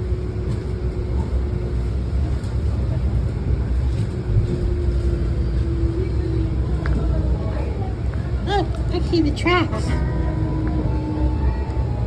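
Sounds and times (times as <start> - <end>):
tram rumble: 0.0 - 12.0.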